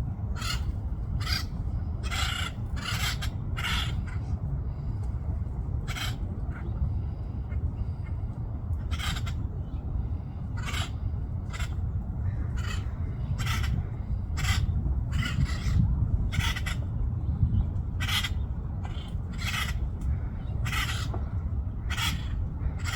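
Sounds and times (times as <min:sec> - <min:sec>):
constant low rumble: 0:00.0 - 0:22.9.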